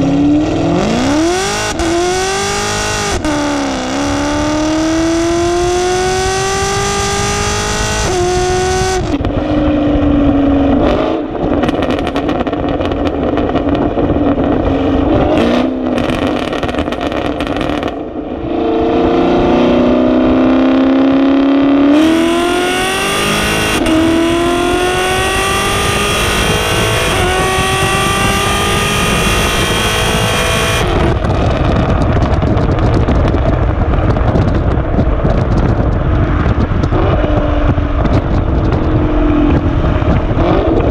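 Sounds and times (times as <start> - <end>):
car exhaust accelerating: 0.0 - 40.9.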